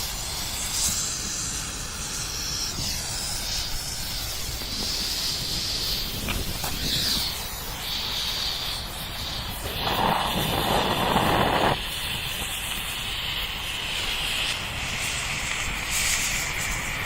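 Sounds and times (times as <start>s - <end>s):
firework fountain hissing: 0.0s - 17.0s.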